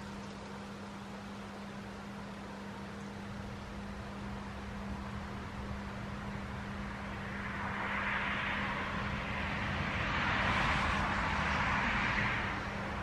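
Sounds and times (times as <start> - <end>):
wind rustling tree leaves: 0.0 - 13.0.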